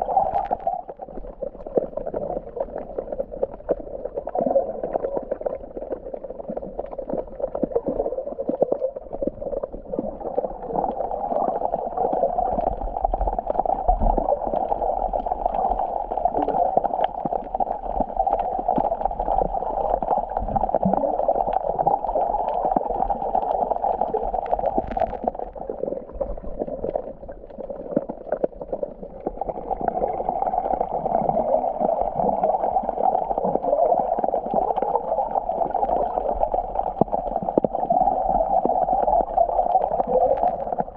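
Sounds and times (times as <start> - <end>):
muffled seawater gurgling and sloshing: 0.0 - 40.9.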